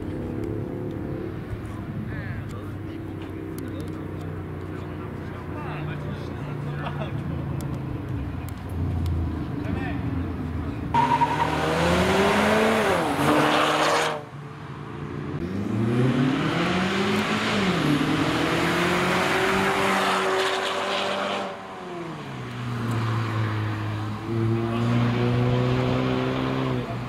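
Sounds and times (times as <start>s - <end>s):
car engine accelerating: 0.0s - 14.3s, 15.3s - 27.0s.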